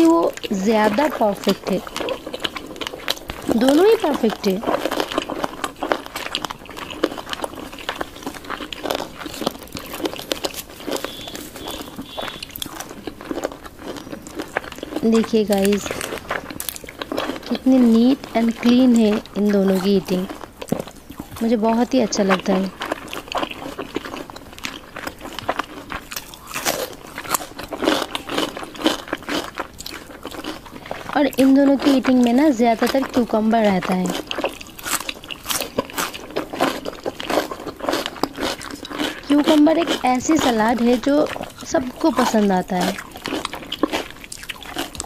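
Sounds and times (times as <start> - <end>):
crunchy bites and chewing: 0.0 - 45.0.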